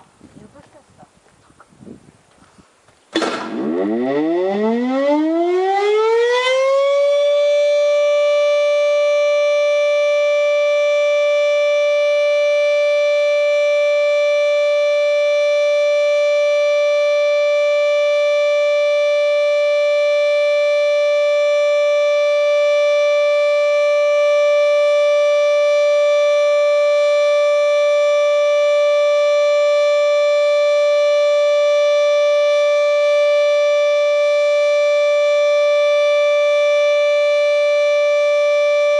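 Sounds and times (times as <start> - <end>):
siren rising to steady tone: 3.4 - 38.9.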